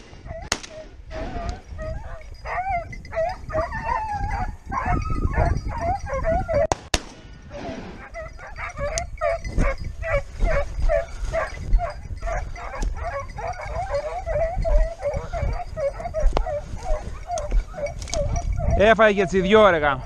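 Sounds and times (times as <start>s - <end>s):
hounds yelping: 0.0s - 6.8s, 7.7s - 20.0s.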